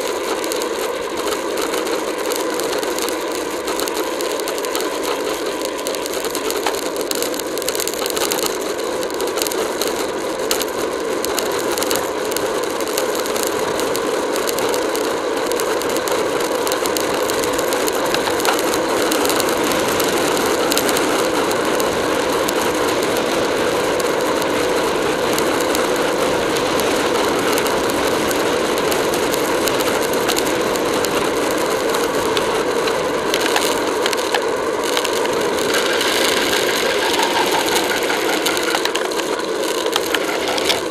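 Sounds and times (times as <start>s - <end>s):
bike rattling: 0.0s - 40.9s
wind and tyre noise: 0.0s - 40.9s.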